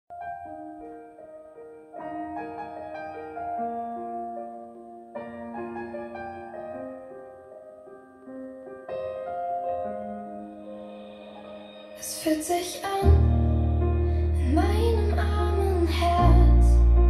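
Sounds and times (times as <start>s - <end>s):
piano chords over loudspeakers: 0.1s - 17.0s.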